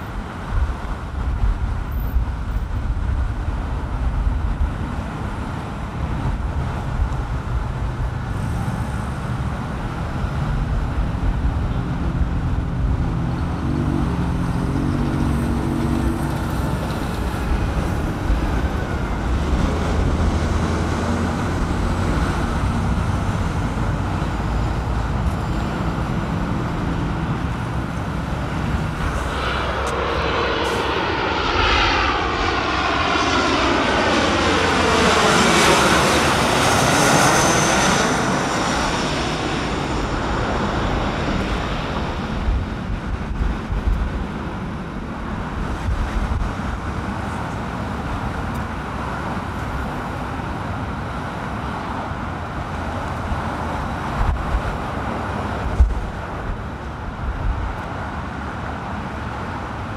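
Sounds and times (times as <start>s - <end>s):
jet flying low overhead: 0.0s - 59.9s
traffic and airport rumble: 0.0s - 59.9s.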